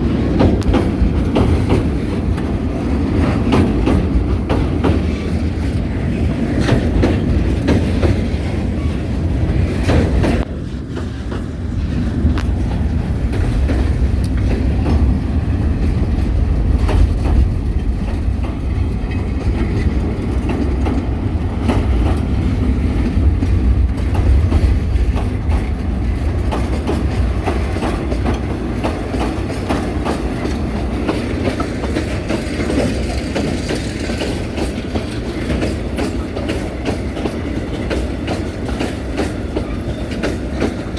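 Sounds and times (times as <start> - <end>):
train rumbling on rails: 0.0 - 40.9
wheels clicking over rail joints: 0.0 - 40.9.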